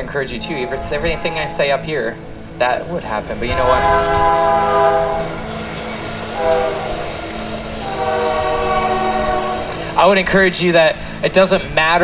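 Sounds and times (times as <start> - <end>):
locomotive air horn blasts: 0.0 - 10.2.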